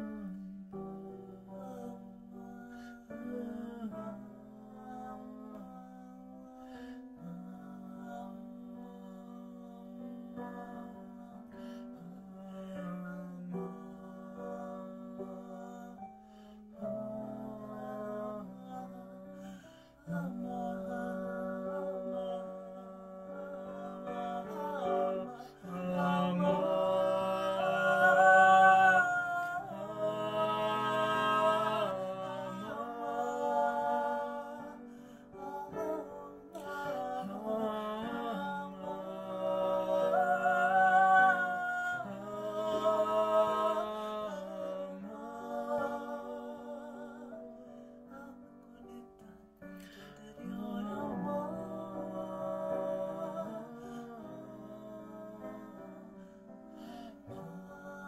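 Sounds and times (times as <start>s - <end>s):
woman and man singing together: 1.1s - 58.0s.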